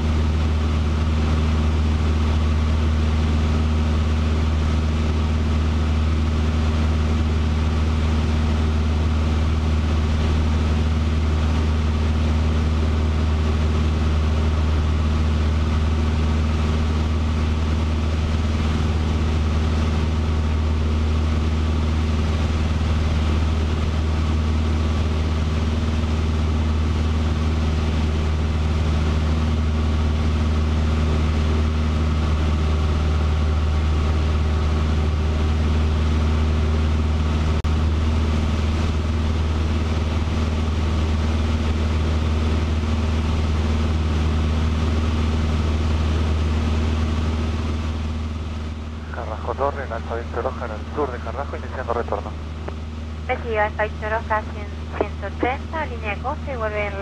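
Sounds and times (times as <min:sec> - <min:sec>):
light aircraft engine hum: 0:00.0 - 0:57.0.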